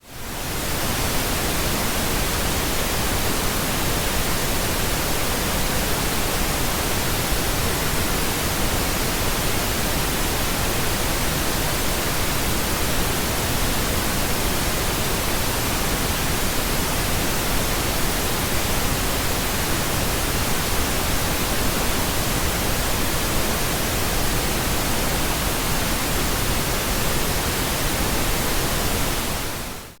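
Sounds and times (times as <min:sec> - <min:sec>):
pink noise hiss: 0:00.0 - 0:30.0.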